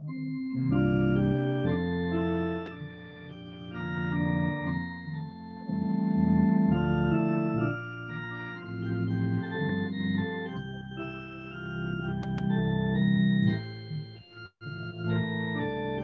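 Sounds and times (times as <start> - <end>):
organ playing hymn chords: 0.0 - 16.0.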